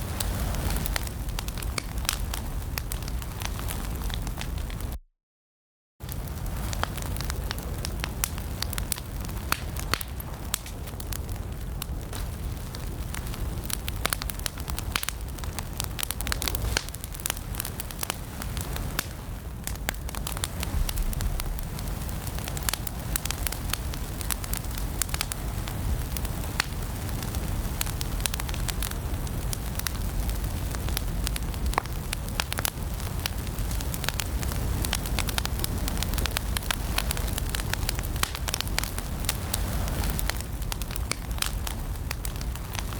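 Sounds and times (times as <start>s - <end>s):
low rumble of flames: 0.0s - 5.0s, 6.0s - 42.9s
wood fire crackling and popping: 0.0s - 5.0s, 6.0s - 42.9s.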